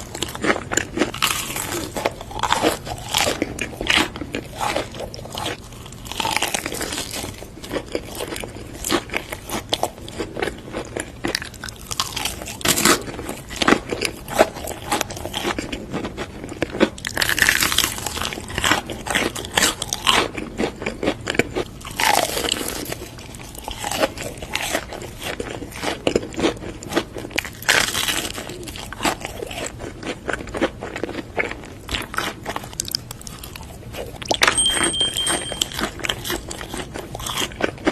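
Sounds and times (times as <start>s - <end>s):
crunchy bites: 0.0s - 34.5s
crackly chewing: 0.0s - 34.6s, 35.4s - 37.9s.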